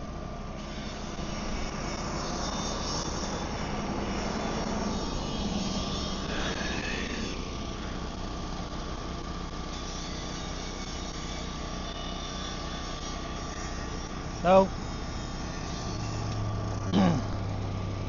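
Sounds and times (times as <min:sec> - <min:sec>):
engine drone: 0:00.0 - 0:18.0
high whine: 0:00.0 - 0:18.0.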